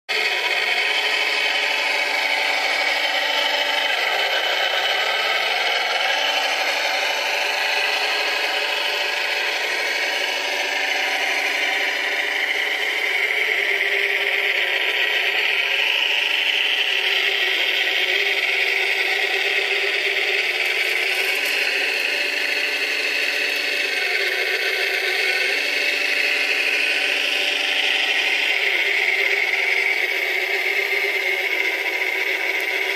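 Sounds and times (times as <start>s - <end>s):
small electric motors whirring: 0.1s - 32.9s.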